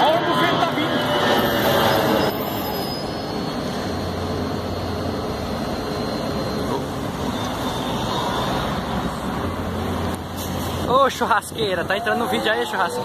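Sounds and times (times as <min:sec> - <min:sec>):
bus passing by: 0:00.0 - 0:13.0.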